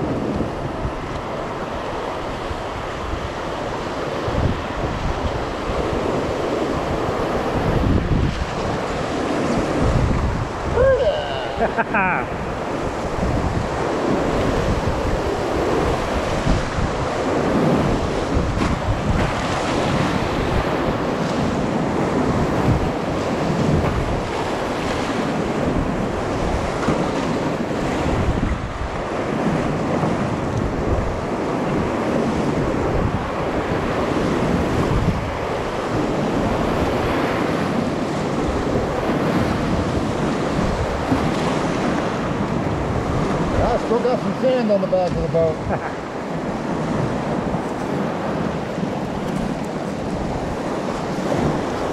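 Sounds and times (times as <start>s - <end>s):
rapids rushing and splashing: 0.0s - 51.9s
wind buffeting microphone: 0.0s - 51.9s.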